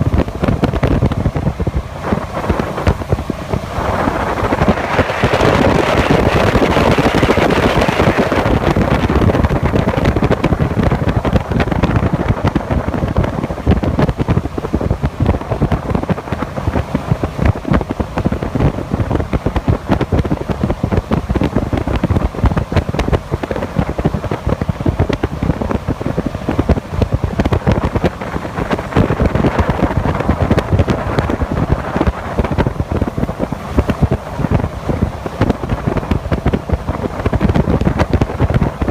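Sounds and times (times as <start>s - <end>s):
rushing water: 0.0s - 38.9s
wind buffeting microphone: 0.0s - 38.9s.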